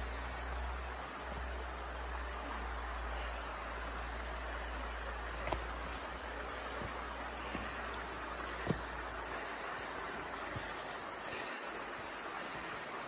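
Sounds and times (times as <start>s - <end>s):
stream flowing over stones: 0.0s - 13.0s.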